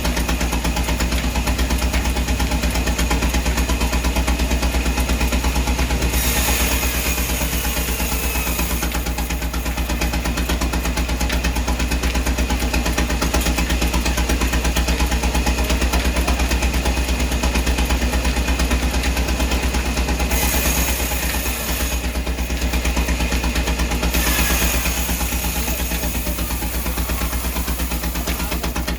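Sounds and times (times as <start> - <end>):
engine running with low hum: 0.0 - 28.9.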